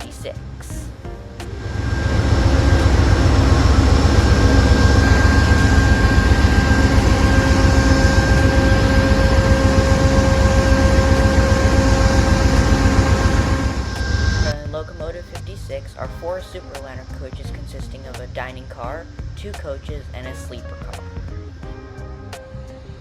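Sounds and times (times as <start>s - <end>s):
diesel locomotive engine rumble: 0.0s - 22.2s
steady hums: 0.0s - 23.0s
whine: 0.0s - 23.0s.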